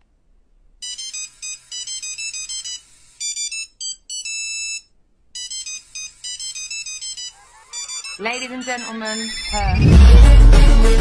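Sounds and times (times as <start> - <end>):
electronic ringtone beeps: 0.8 - 10.2.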